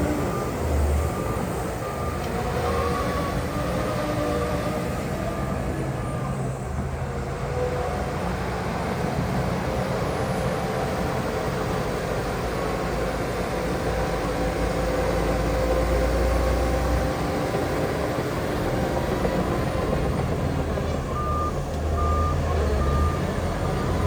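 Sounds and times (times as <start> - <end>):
heavy diesel engines running: 0.0 - 24.0.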